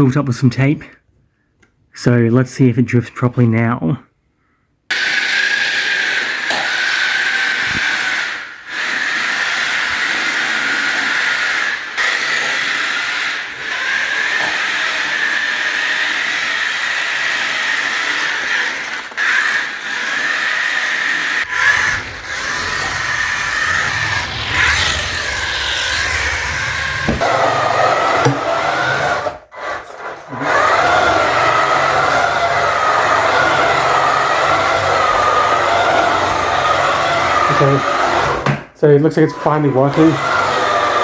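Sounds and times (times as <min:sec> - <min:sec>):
toy truck motor whining: 0:04.9 - 0:41.0.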